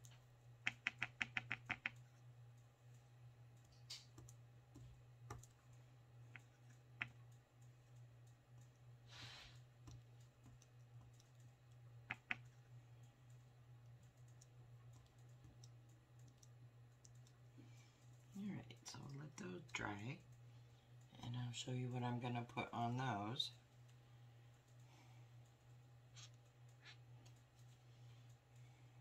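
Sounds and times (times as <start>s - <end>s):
faint clicks and taps: 0.0s - 9.0s, 9.6s - 21.2s, 23.7s - 28.8s
low steady hum: 0.0s - 29.0s.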